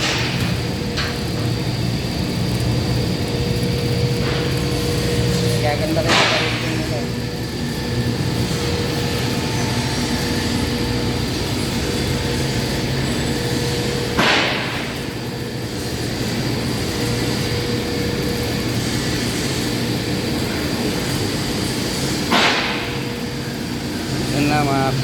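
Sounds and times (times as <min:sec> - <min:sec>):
machinery hum: 0:00.0 - 0:25.0.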